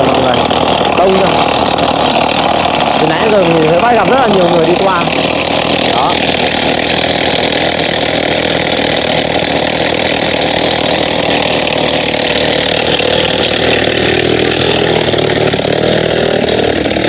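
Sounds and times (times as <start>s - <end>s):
rock breaker hammering rock: 0.0s - 17.0s.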